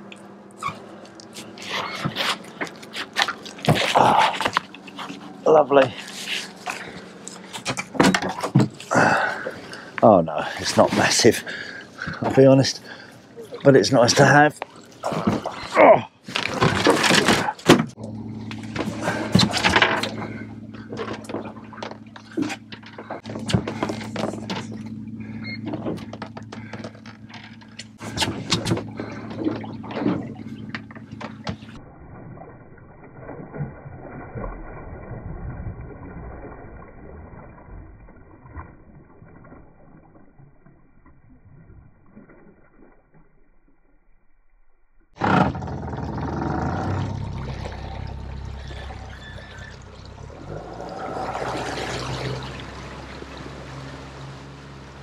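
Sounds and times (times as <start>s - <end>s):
water lapping against hull: 0.0s - 44.2s, 45.1s - 55.0s
low steady hum: 0.0s - 55.0s.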